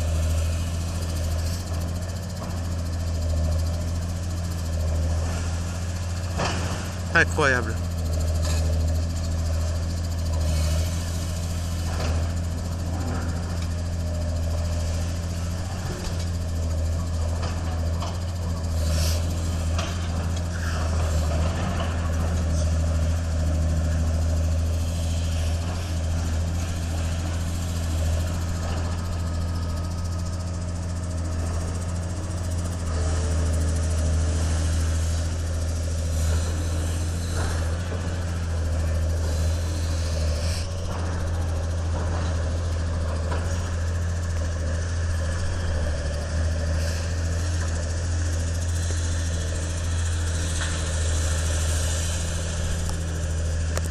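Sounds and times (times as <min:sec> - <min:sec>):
diesel excavator engine running: 0:00.0 - 0:53.9.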